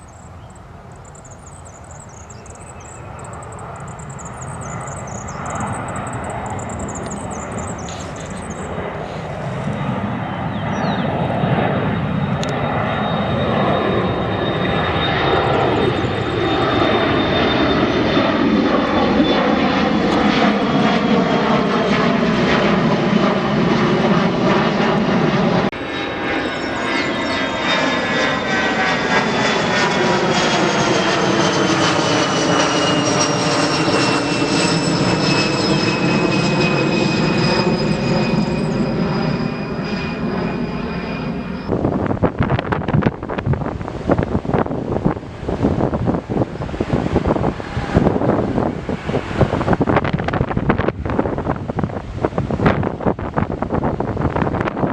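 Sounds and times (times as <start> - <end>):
jet engines roaring past: 0.0 - 54.9.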